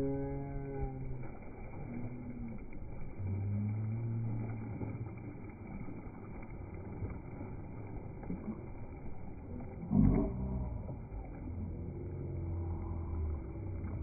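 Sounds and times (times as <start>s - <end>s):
deep drawn-out tone: 0.0s - 14.0s
slowed-down sea water: 0.0s - 14.0s.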